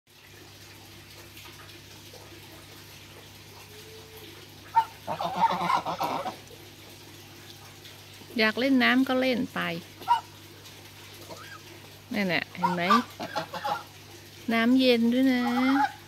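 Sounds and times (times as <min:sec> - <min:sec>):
goose splashing in water: 0:00.4 - 0:08.4, 0:09.8 - 0:14.5, 0:15.2 - 0:16.0.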